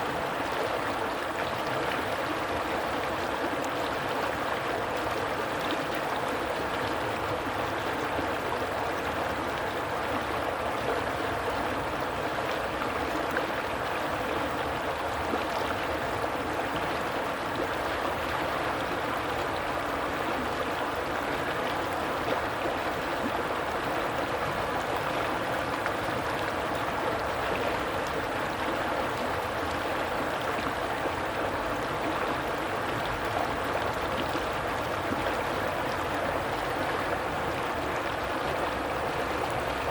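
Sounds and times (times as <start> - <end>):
stream water over rocks: 0.0 - 39.9.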